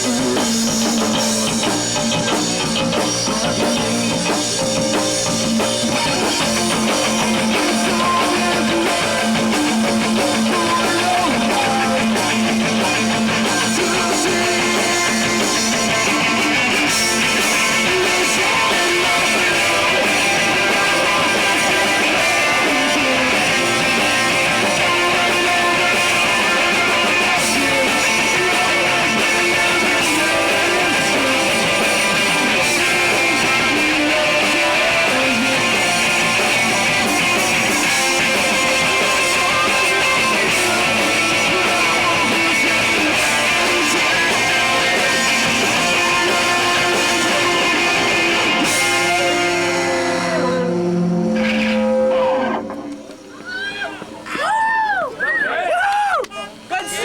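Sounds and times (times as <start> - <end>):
drum kit: 0.0 - 54.2
electric guitar: 0.0 - 55.3.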